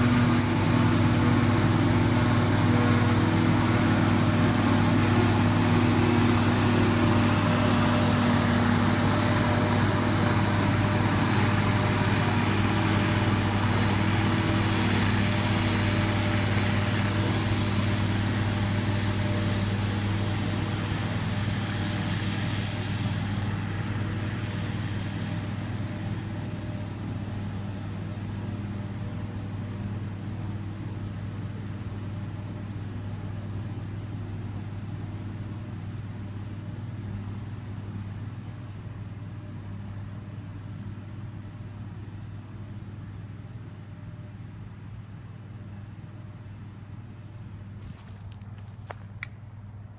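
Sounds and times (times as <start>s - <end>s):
harvester engine drone: 0.0s - 49.9s.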